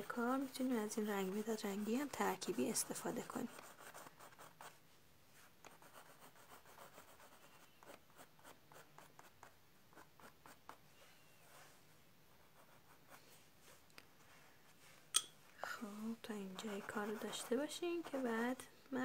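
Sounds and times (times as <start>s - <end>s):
colored pencil scratching on paper: 0.0s - 4.8s, 5.4s - 13.8s, 16.0s - 18.7s.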